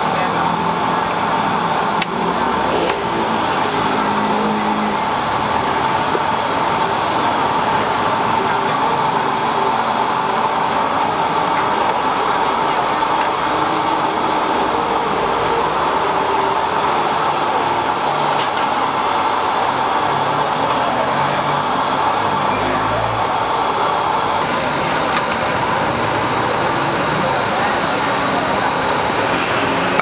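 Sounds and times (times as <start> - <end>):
street traffic drone: 0.0 - 30.0.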